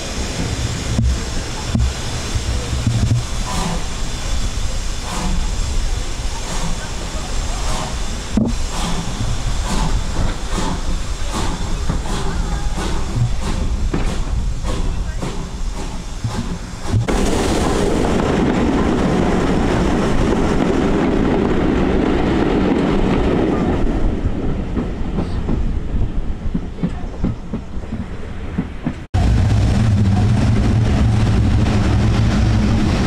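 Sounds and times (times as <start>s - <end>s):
train running on track: 0.0s - 33.0s
regular rail clicking: 0.3s - 23.7s, 24.5s - 29.1s.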